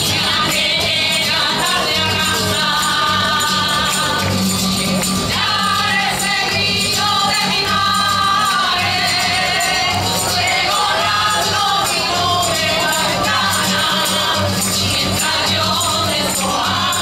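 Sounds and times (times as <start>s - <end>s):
guitar accompaniment: 0.0s - 17.0s
rhythmic hand clapping: 0.0s - 17.0s
women's choir singing folk song: 0.0s - 17.0s.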